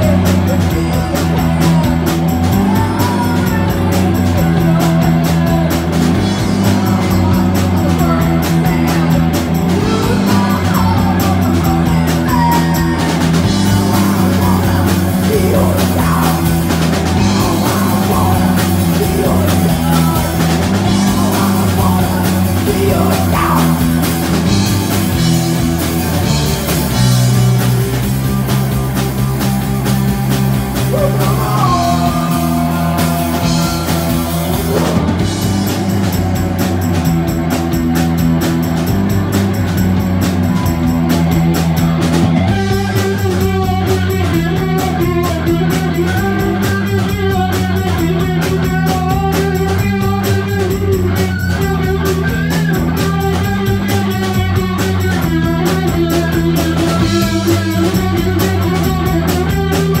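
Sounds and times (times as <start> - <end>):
bass guitar: 0.0 - 60.0
distorted electric guitar: 0.0 - 60.0
drum kit: 0.0 - 60.0
higher guitar line: 0.0 - 60.0.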